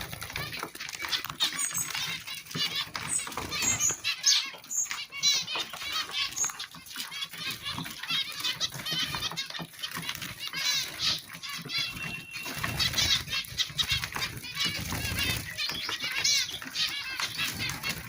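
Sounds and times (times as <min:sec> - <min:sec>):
caged birds chirping and squawking: 0:00.0 - 0:18.0.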